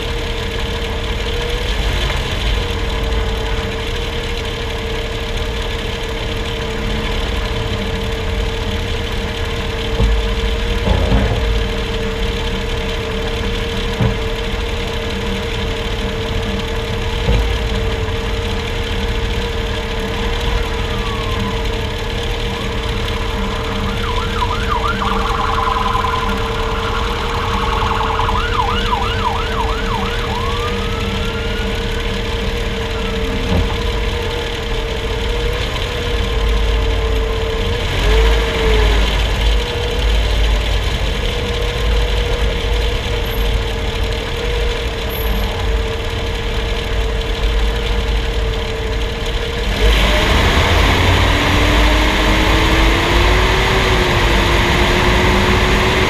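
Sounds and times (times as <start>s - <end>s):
truck road noise and hum: 0.0s - 56.0s
emergency vehicle siren: 2.5s - 40.7s, 48.4s - 56.0s.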